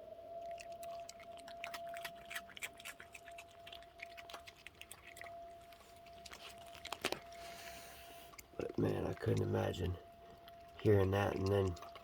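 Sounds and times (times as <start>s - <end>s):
faint fire siren steady tone: 0.0s - 12.0s
raccoons crunching snacks: 0.4s - 12.0s.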